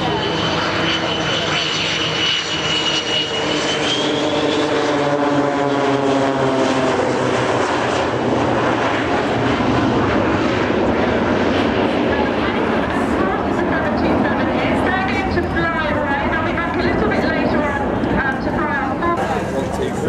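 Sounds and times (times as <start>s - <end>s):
jet airliner passing low: 0.0s - 20.0s.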